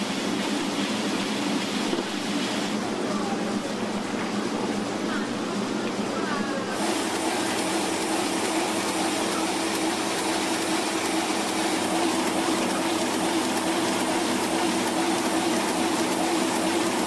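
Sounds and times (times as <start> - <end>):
machine whir with hum: 0.0 - 17.0.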